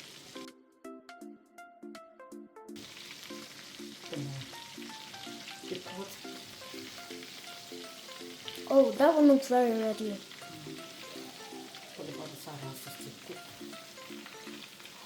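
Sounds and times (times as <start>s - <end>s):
chicken frying in hot oil: 0.0s - 0.5s, 2.8s - 15.0s
background music: 0.0s - 15.0s.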